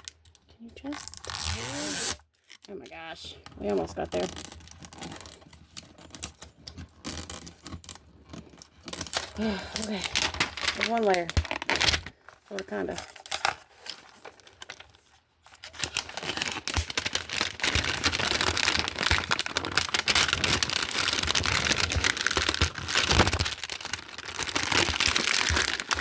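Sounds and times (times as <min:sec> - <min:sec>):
plastic wrap crinkling: 0:00.0 - 0:26.0.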